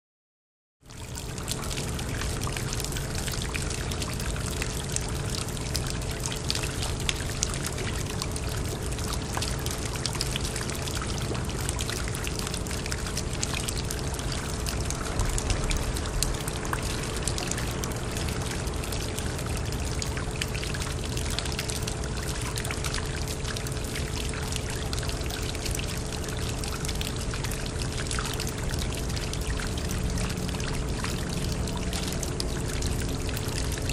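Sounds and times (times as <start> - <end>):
water pouring into a drain: 0.9 - 33.9.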